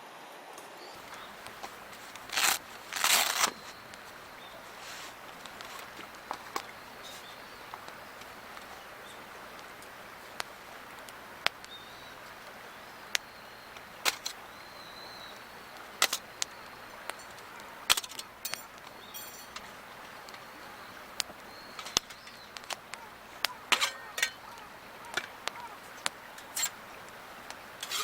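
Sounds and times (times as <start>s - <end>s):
outdoor hiss: 0.0s - 28.0s
faint high chirp: 0.9s - 28.0s
wood fire crackling: 1.0s - 28.0s.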